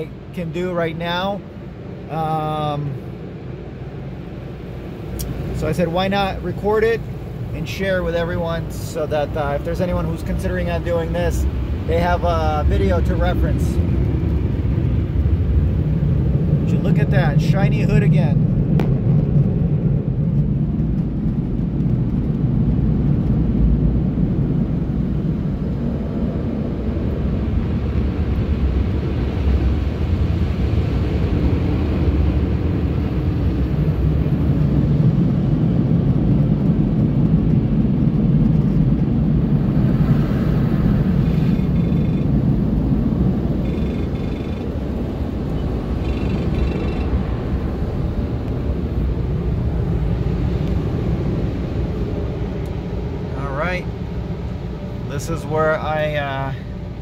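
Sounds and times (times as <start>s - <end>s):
drying blowers rushing air: 0.0s - 57.0s.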